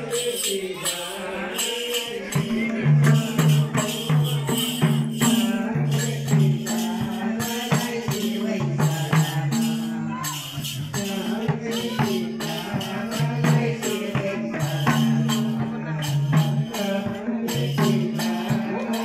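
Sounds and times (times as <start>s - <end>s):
hand drums beating: 2.2s - 19.0s.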